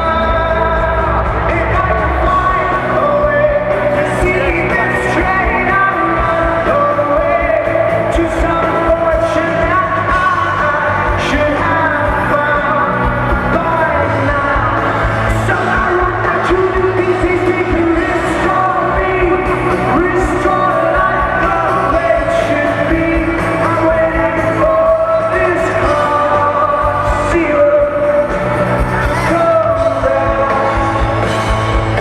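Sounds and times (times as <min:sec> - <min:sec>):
live rock band with singer: 0:00.0 - 0:32.0.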